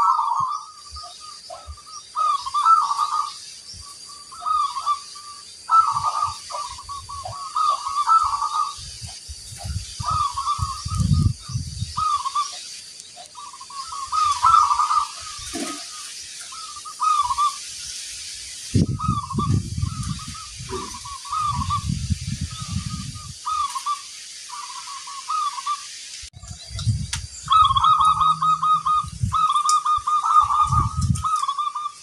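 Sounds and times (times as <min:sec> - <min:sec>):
doves cooing: 0:00.0 - 0:08.9, 0:09.6 - 0:12.6, 0:13.2 - 0:17.6, 0:18.9 - 0:25.8, 0:27.4 - 0:32.0.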